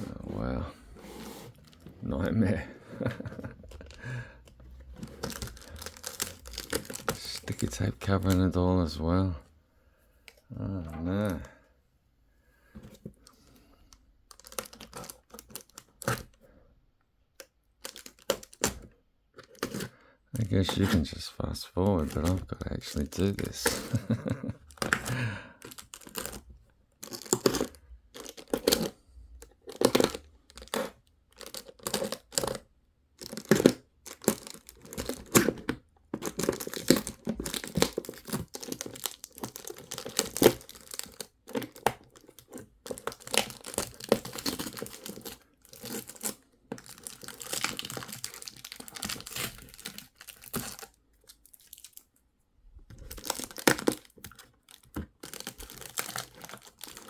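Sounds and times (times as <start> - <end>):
packaging crinkling: 1.6 - 9.0, 14.3 - 16.4, 17.8 - 18.8, 20.4 - 52.1, 52.9 - 57.0.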